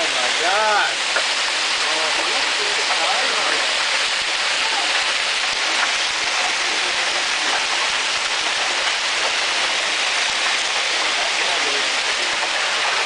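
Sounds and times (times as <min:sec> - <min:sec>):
hail clattering: 0:00.0 - 0:13.0.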